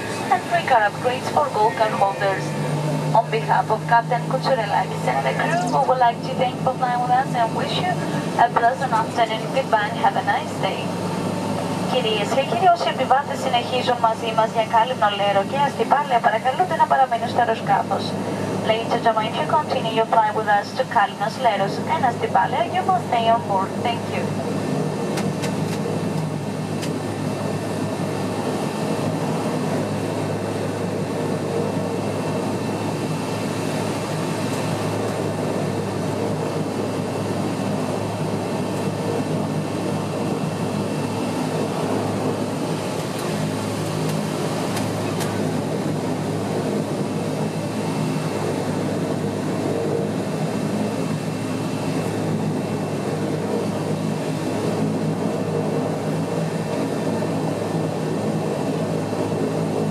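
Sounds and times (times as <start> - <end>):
turboprop engine drone: 0.0 - 59.9.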